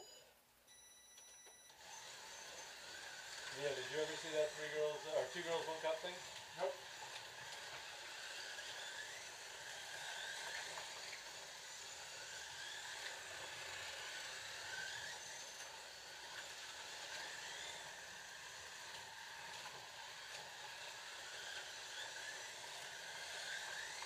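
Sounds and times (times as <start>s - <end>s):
slot car motors whirring: 1.7s - 24.0s
slot car whines: 1.7s - 24.0s.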